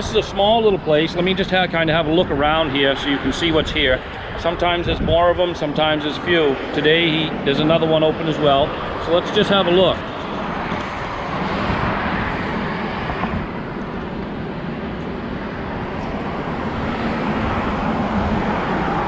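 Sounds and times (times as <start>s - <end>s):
road traffic and wind hiss: 0.0s - 19.0s.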